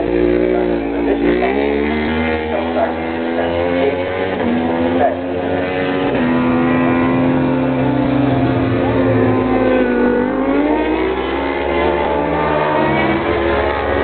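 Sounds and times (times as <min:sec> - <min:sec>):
motorcycle engines at high revs: 0:00.0 - 0:14.0.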